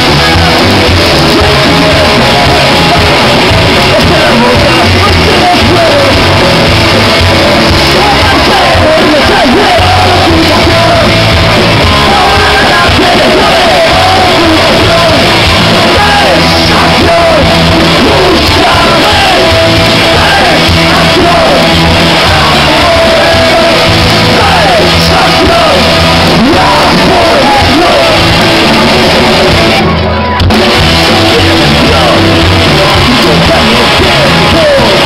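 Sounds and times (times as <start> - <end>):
rock band playing loud: 0.0 - 35.0
singer yelling vocals: 0.0 - 35.0.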